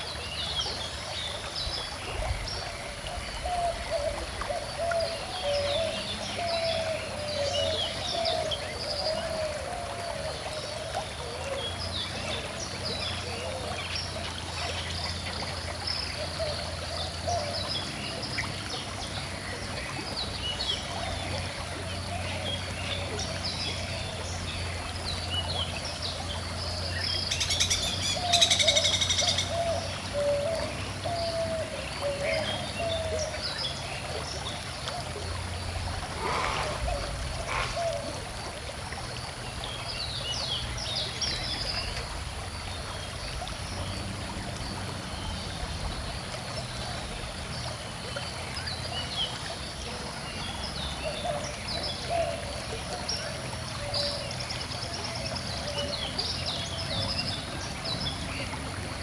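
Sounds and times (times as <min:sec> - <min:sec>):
birds singing and calling: 0:00.0 - 0:38.4, 0:39.0 - 0:59.0
gently flowing stream: 0:00.0 - 0:59.0.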